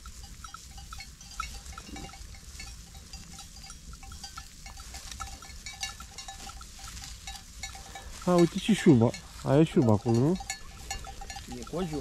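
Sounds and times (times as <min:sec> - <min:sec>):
sheep bells tinkling: 0:00.0 - 0:12.0.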